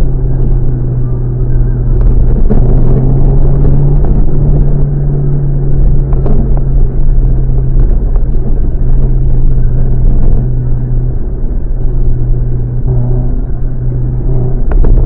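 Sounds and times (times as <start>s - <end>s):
car exhaust droning: 0.0s - 15.0s.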